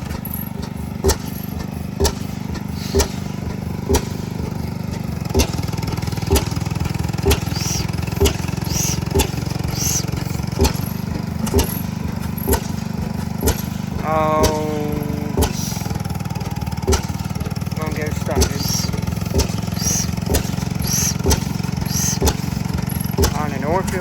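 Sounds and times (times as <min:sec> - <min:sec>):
gas engine exhaust pops: 0:00.0 - 0:24.0
old engines droning: 0:00.0 - 0:24.0.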